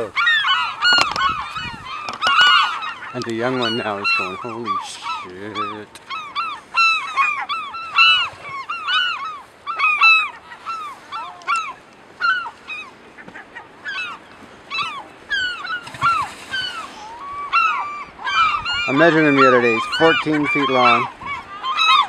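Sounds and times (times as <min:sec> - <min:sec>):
gulls squawking: 0:00.0 - 0:22.0.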